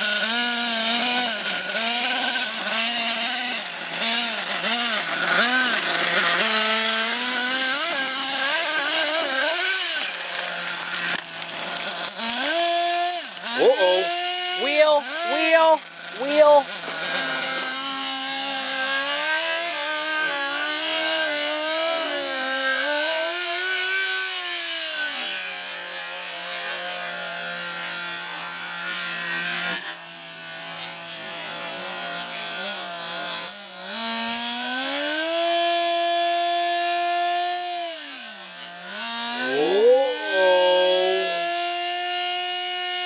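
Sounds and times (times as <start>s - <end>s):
nitro rc engine buzzing: 0.0s - 26.3s, 27.4s - 43.0s.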